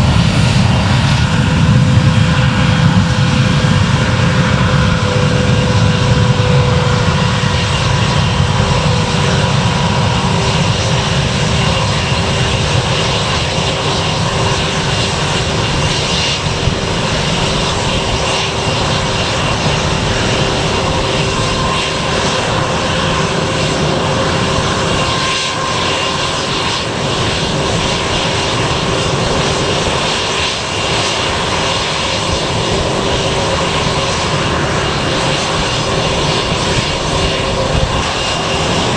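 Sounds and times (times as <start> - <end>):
airliner engines drone: 0.0 - 38.9.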